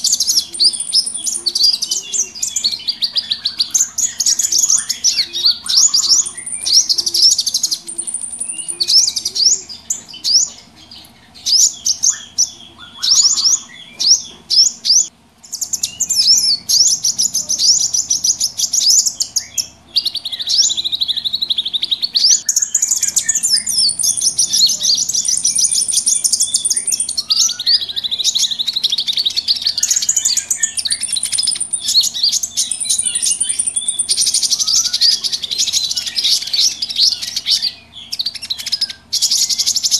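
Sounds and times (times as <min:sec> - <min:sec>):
small birds chirping: 0:00.0 - 0:39.9
thin whistled bird notes: 0:00.0 - 0:39.9.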